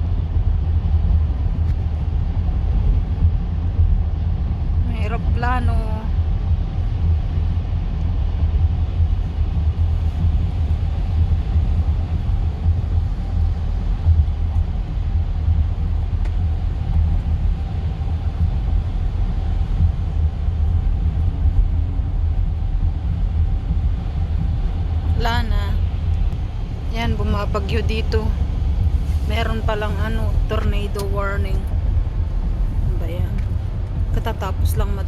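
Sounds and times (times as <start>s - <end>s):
car cabin road rumble: 0.0s - 35.0s.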